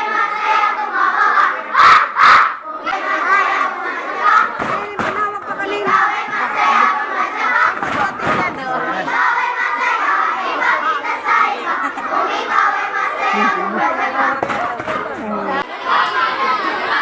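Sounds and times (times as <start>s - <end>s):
crowd of children shouting: 0.0s - 17.0s.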